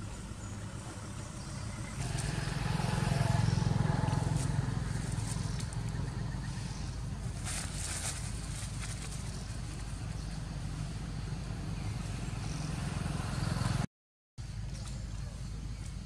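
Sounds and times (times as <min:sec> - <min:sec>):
vehicle engine passing: 0:00.0 - 0:13.9.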